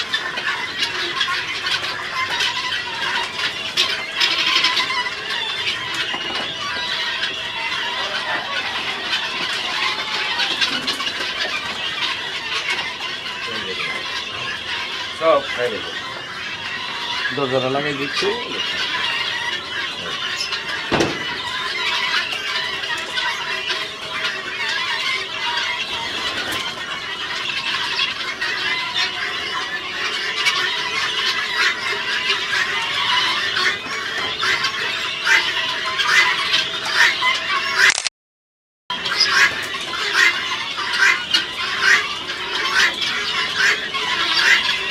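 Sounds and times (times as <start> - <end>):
guineafowl flock calling: 0.0 - 38.0, 38.9 - 44.9.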